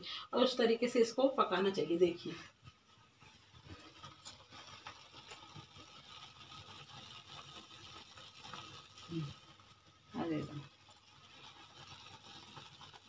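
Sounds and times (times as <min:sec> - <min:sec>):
pot boiling hiss: 0:00.0 - 0:13.0
faint irregular ticks: 0:02.2 - 0:13.0.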